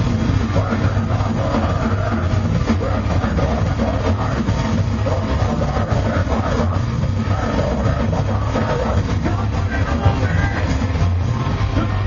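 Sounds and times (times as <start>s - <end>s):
distorted electric guitars: 0.0s - 12.0s
drum kit: 0.0s - 12.0s.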